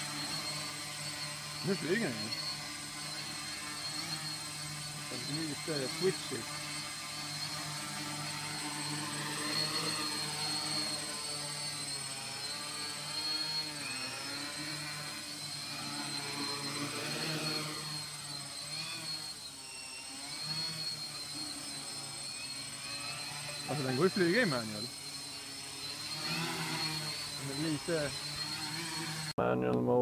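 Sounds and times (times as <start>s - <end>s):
multicopter propellers whirring: 0.0s - 29.3s.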